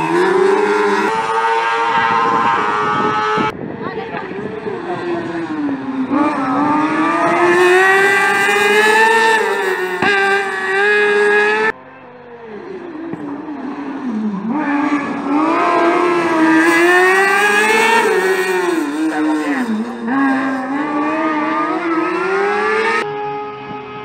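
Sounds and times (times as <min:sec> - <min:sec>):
car engine revving and shifting gear: 0:00.0 - 0:03.6, 0:04.2 - 0:11.8, 0:12.5 - 0:24.0
rally car engines at full throttle: 0:00.0 - 0:24.0.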